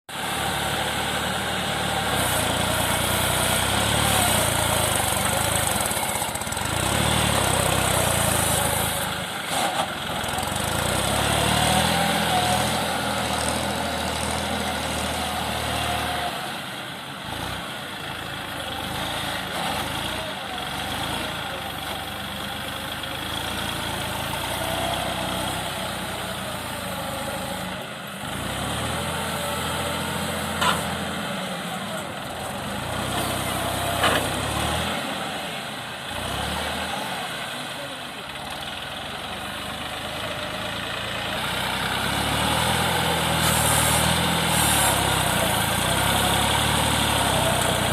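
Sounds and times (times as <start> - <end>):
tractor diesel engine running: 0.1 - 47.9.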